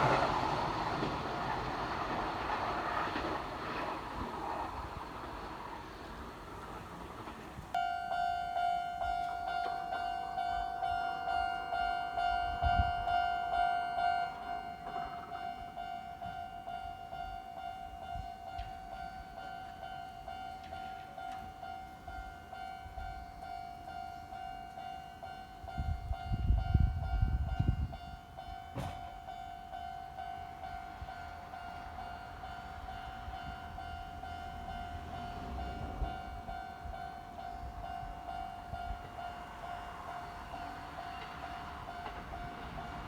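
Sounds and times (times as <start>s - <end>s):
level-crossing alarm bell: 7.8s - 43.0s.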